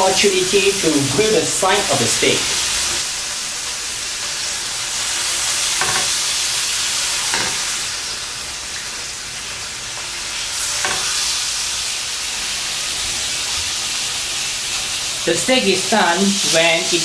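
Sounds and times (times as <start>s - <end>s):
steak sizzling on grill pan: 0.0s - 17.0s.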